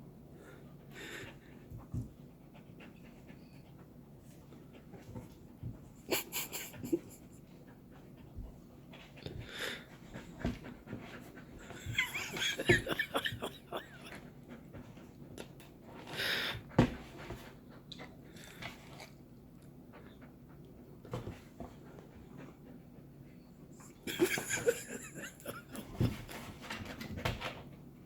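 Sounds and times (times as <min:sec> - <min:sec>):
dog panting: 0:00.7 - 0:27.0.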